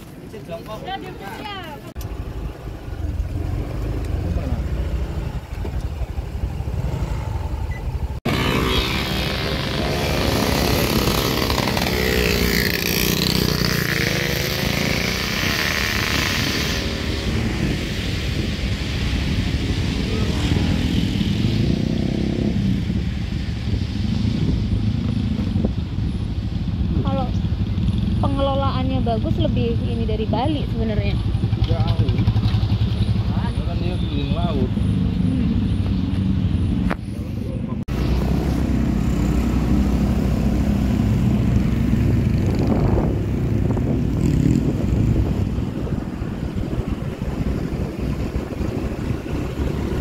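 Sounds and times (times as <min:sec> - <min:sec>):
motorcycle engines droning: 0:00.0 - 0:50.0.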